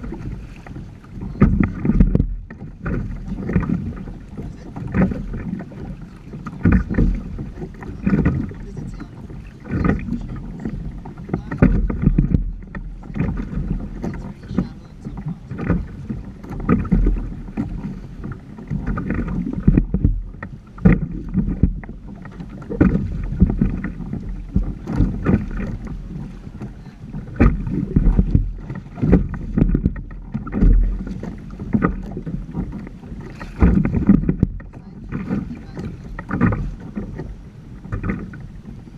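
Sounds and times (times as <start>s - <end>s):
water splashing against hull: 0.0s - 38.9s
wind rumble on microphone: 0.0s - 38.9s.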